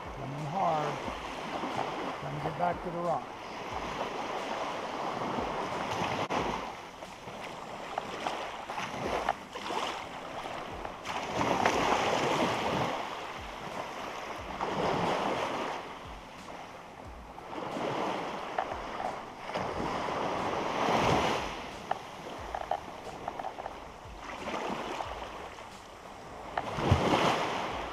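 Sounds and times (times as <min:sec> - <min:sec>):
waves breaking on sandy beach: 0:00.0 - 0:27.9.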